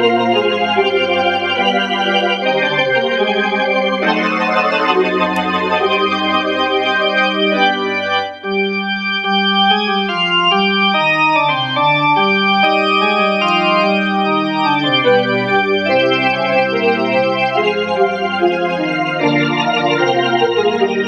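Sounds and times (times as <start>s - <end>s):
electronic organ chords: 0.0s - 21.0s.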